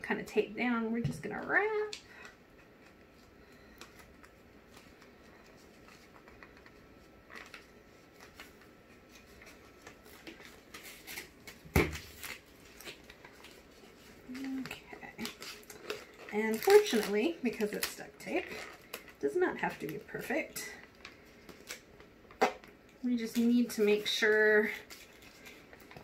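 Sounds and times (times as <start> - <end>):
duct tape wrapping: 1.8 - 26.0
plastic bottle crinkling: 2.1 - 23.8.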